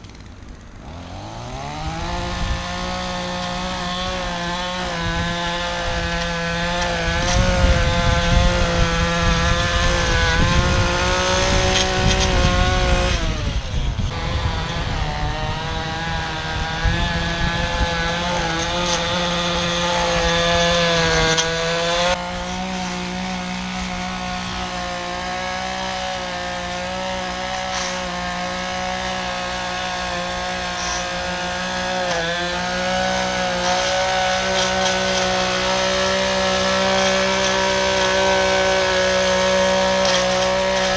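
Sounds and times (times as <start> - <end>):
lawn mower engine cutting grass: 0.0 - 40.9.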